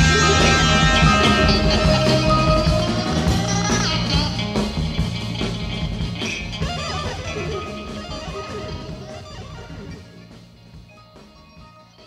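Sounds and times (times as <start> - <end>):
psychedelic rock instrumental music: 0.0 - 12.0.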